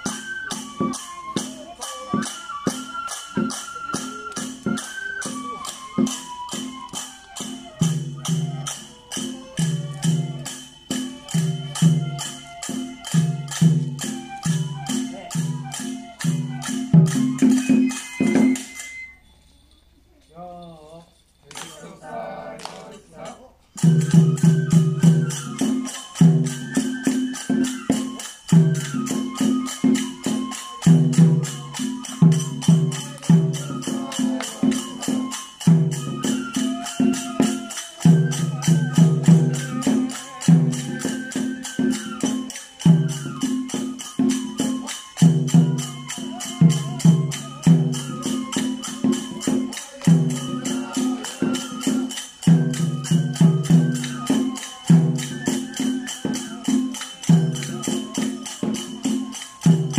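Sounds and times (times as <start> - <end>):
drum beating: 0.0 - 18.8, 23.8 - 59.9
flute-like melody: 0.0 - 19.3, 23.8 - 59.9
hand cymbals jingling: 0.0 - 22.1, 23.6 - 59.9.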